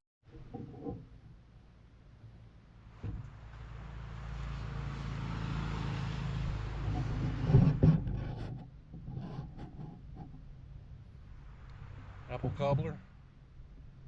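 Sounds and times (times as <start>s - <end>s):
low engine hum: 1.0s - 9.1s, 10.0s - 14.0s.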